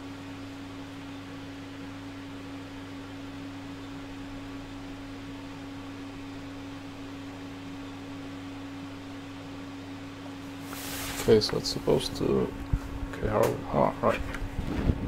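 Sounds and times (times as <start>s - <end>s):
steady mid-pitched hum: 0.0s - 15.0s.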